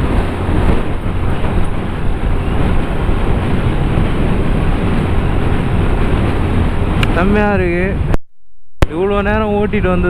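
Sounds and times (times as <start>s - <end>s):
wind rush on microphone: 0.0s - 8.2s, 8.8s - 10.0s.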